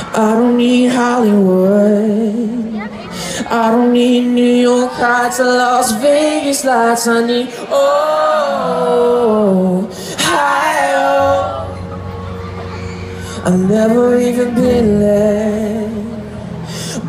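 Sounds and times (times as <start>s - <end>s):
person singing at rock concert: 0.0s - 17.0s.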